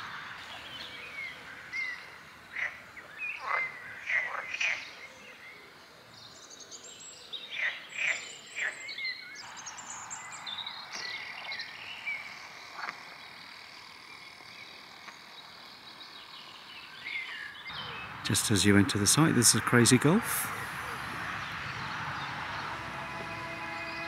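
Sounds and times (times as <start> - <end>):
frogs calling: 0.0 - 5.8, 7.5 - 24.0
birds calling: 0.0 - 24.0.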